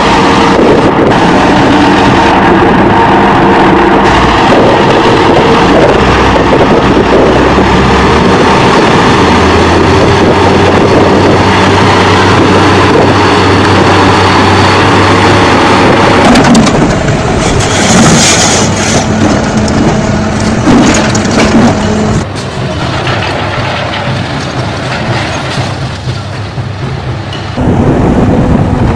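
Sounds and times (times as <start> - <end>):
heavy machinery engines running: 0.0 - 28.9.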